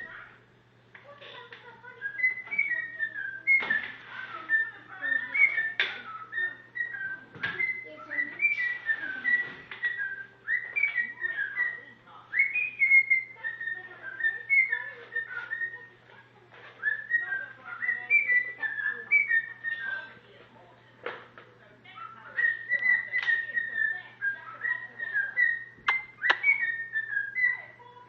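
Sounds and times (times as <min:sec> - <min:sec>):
faint low hum: 0:00.0 - 0:28.0
cockatiel whistling a tune: 0:02.0 - 0:15.9, 0:16.7 - 0:20.0, 0:22.0 - 0:27.7.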